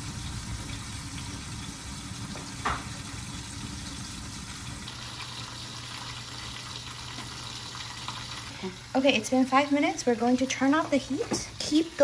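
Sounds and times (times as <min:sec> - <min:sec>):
dumplings sizzling in a pan: 0:00.0 - 0:12.0.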